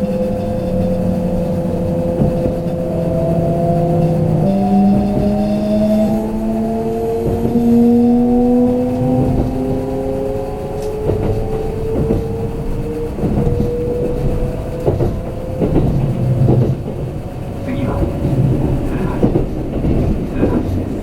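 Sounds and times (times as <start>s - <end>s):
traction motor whine: 0.0s - 20.8s
train running rumble: 0.0s - 21.0s.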